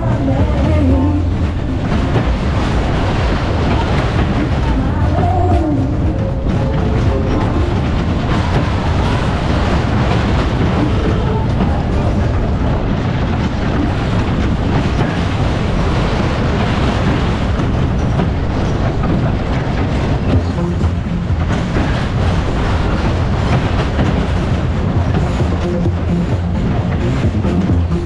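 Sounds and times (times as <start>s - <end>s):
ride cars rumbling on rails: 0.0s - 28.0s.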